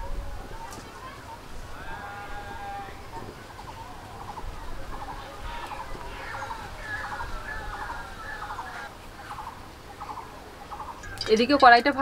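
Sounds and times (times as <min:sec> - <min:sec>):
chickens clucking: 0:00.6 - 0:11.8.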